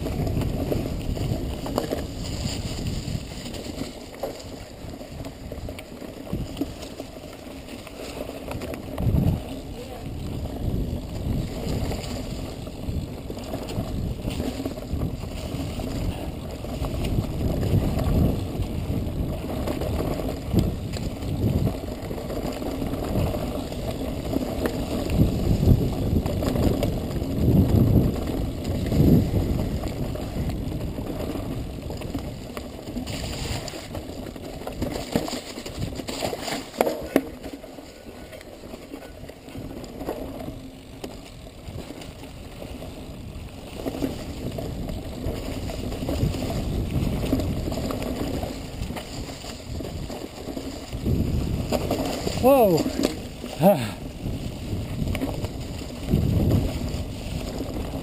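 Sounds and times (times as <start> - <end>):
bike knocking and rattling: 0.0 - 58.0
bike tyres rumbling on dirt: 0.0 - 58.0.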